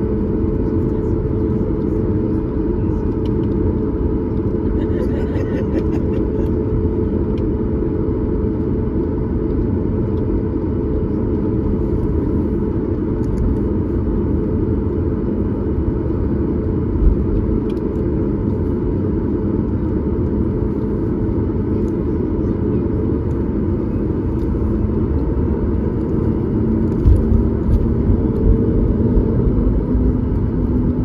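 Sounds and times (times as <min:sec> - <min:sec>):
jet engines in airplane cabin: 0:00.0 - 0:31.0.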